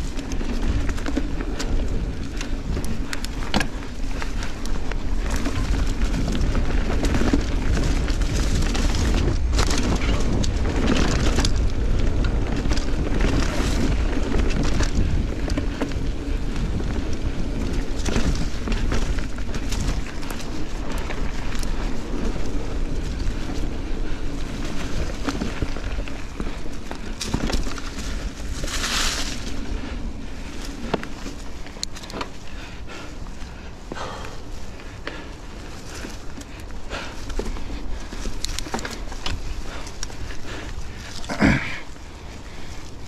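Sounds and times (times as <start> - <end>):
bike knocks and rattles: 0.0 - 43.0
bike tyres rumbling on dirt: 0.0 - 43.0
wind buffeting microphone: 0.0 - 43.0.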